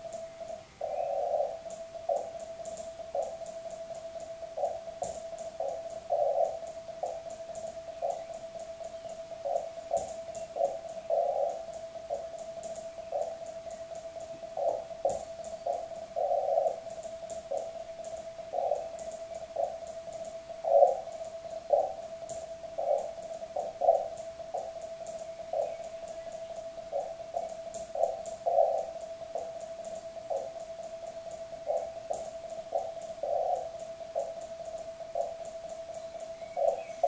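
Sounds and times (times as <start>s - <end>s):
faint steady tone: 0.0s - 37.0s.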